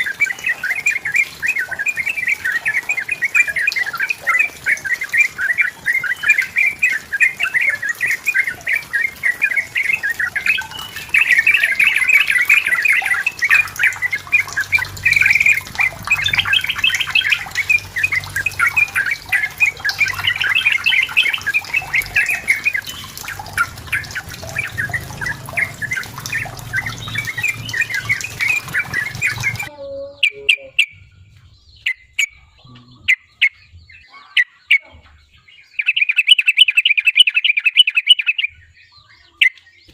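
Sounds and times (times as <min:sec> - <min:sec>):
bird singing bubbly chattering: 0:00.0 - 0:39.9.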